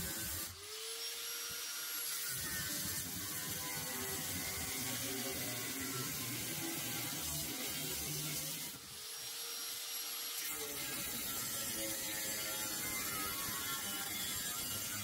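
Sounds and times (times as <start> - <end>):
angle grinder cutting metal: 0.0 - 15.0.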